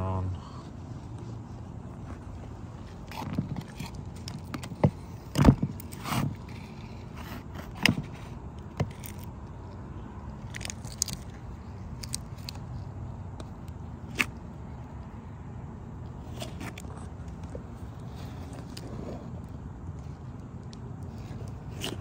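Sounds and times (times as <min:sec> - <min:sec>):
steady low hum: 0:00.0 - 0:22.0
handling clicks and scrapes: 0:00.6 - 0:15.1, 0:16.0 - 0:22.0.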